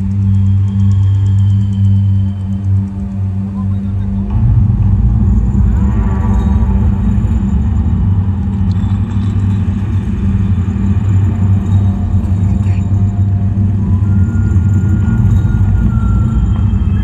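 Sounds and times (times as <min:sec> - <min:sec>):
deep rumbling drone: 0:00.0 - 0:17.0
faint musical tones: 0:00.0 - 0:17.0.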